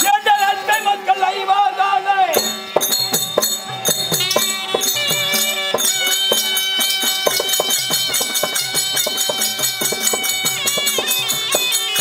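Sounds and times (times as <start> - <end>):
jingling cymbals: 0.0 - 1.5, 2.3 - 12.0
drum strokes: 2.3 - 12.0
held melody line: 2.3 - 12.0.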